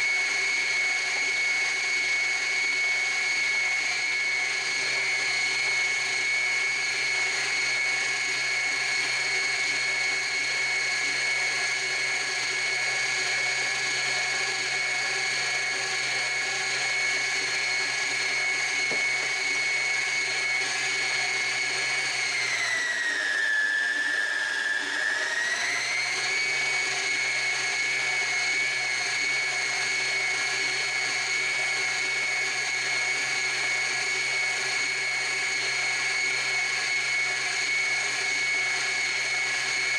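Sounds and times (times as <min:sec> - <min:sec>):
stand mixer whining: 0:00.0 - 0:39.9.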